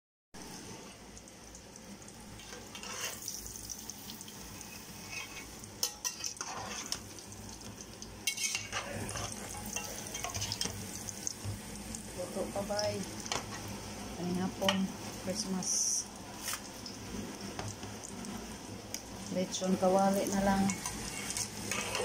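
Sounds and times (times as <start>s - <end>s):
meat sizzling in hot oil: 0.4s - 22.0s.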